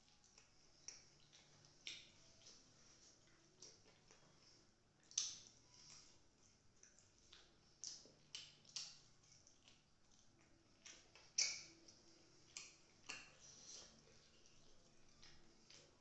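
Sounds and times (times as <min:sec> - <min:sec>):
wet chewing and lip smacks: 0:00.0 - 0:16.0.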